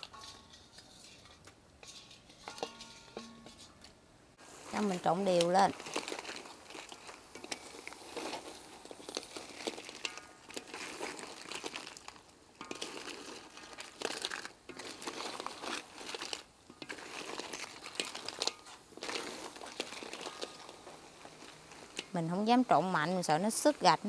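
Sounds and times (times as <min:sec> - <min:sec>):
crab shells scraping in a frying pan: 0:00.0 - 0:24.0.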